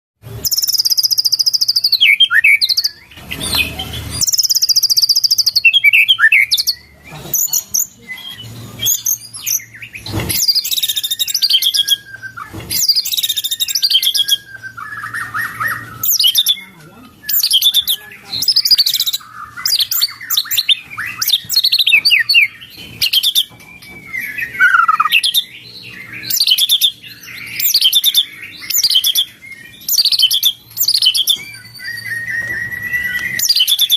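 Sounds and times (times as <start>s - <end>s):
bird singing varied whistles: 0.4s - 33.9s.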